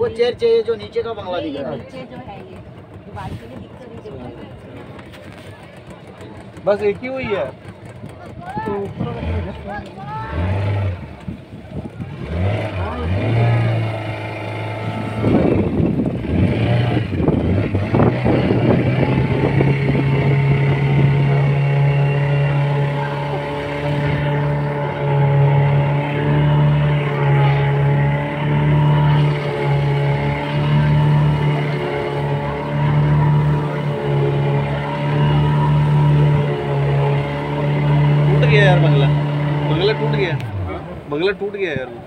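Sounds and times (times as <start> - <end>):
boat engine running: 0.0 - 42.0
rough rushing noise: 1.9 - 42.0.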